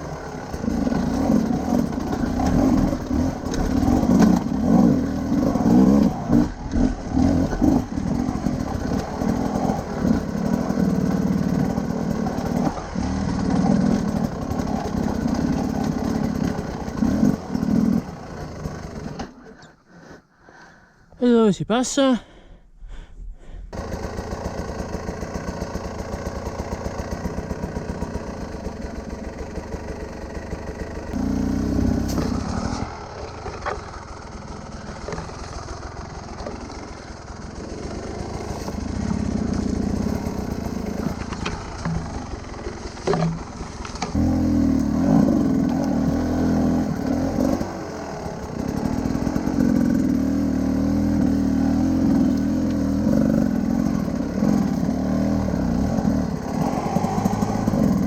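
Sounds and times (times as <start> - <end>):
motorcycle engine revving: 0.0 - 19.8, 23.7 - 58.0.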